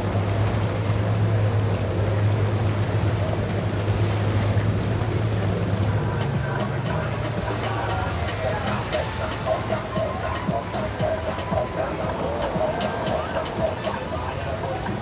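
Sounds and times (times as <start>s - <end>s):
boat engines droning: 0.0s - 15.0s
water wash: 0.0s - 15.0s.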